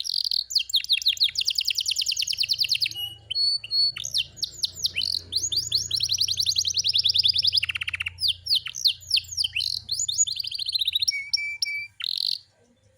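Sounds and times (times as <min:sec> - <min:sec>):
canary singing trills: 0:00.0 - 0:12.9.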